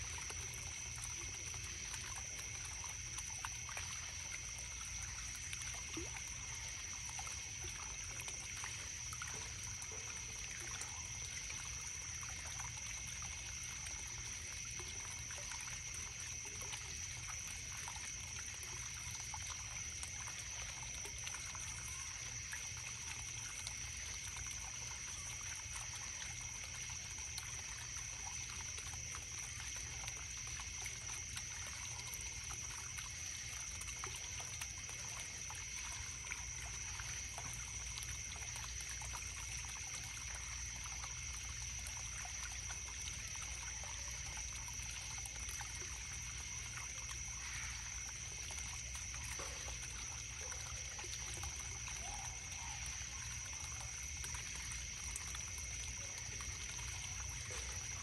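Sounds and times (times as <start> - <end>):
crickets chirping: 0.0 - 58.0
water trickling in a stream: 0.0 - 58.0.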